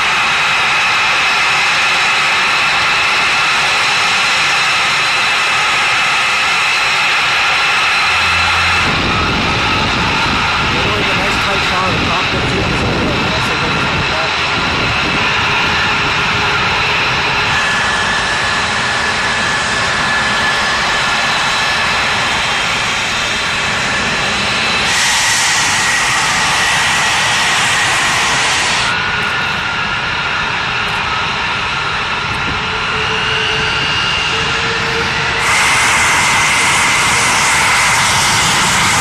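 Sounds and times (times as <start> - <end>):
high jet whine: 0.0 - 39.0
jet engine roar: 0.0 - 39.0.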